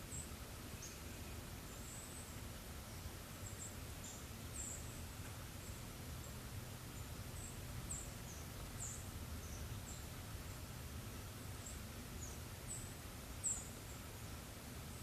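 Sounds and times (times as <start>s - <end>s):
faint low background rumble: 0.0s - 15.0s
small birds chirping: 0.0s - 15.0s.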